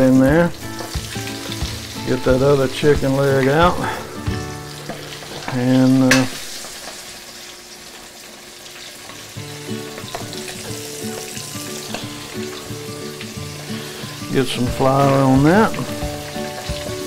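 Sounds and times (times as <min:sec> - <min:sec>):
fat sizzling and crackling: 0:00.0 - 0:17.0.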